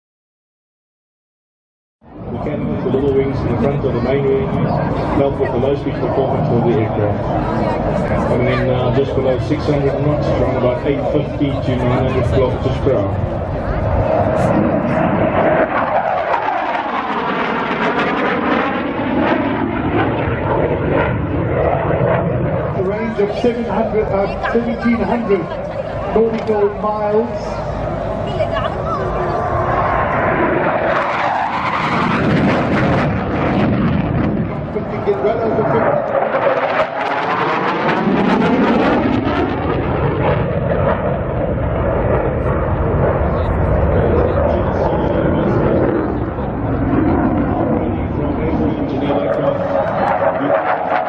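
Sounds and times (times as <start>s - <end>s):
jet engine roar of flyby: 2.0s - 51.0s.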